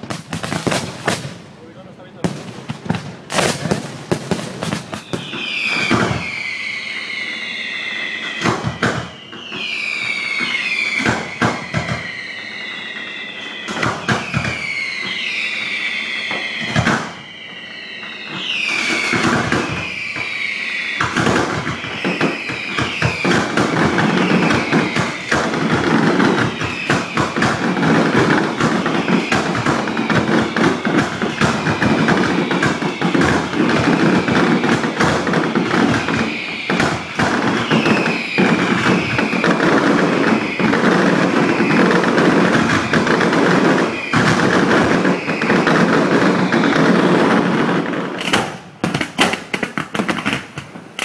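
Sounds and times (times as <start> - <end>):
falling firework whistles: 0.0 - 51.0
fireworks bangs: 0.0 - 51.0
fireworks crackling barrage: 0.0 - 51.0.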